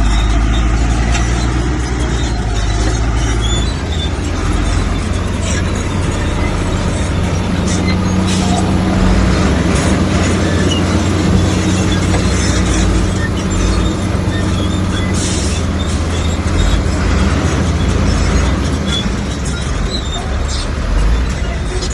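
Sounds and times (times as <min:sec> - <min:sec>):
diesel engine running under load: 0:00.0 - 0:21.9
steel tracks clanking: 0:00.0 - 0:21.9.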